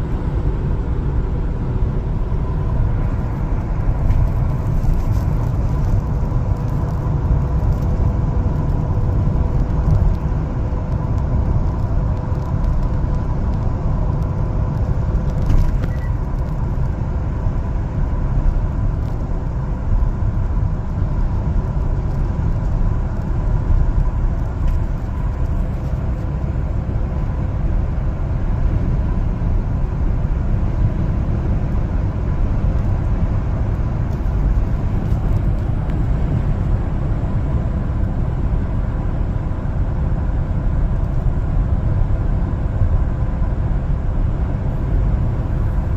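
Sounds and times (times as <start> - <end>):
truck engine and road rumble: 0.0 - 45.9.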